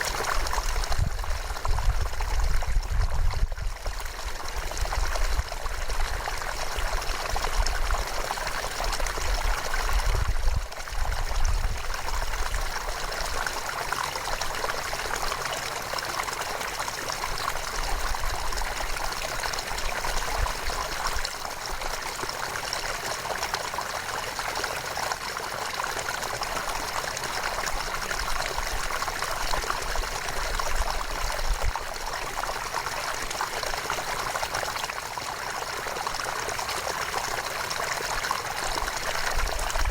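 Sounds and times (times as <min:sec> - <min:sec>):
river water flowing: 0:03.8 - 0:39.9.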